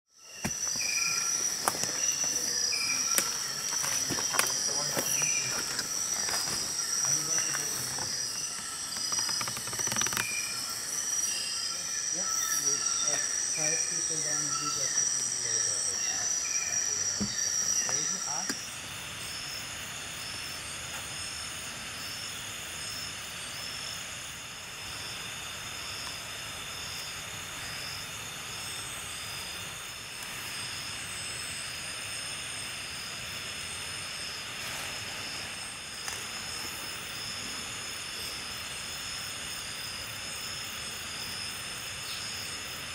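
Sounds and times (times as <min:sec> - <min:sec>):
insects trilling: 0:00.1 - 0:42.9
rapidly pulsing insect trill: 0:00.1 - 0:42.9.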